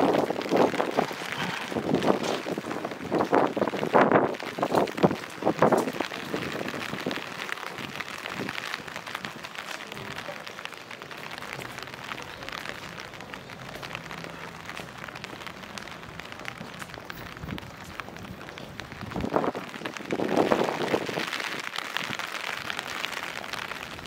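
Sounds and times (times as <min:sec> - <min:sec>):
rain patter: 0:00.0 - 0:24.0.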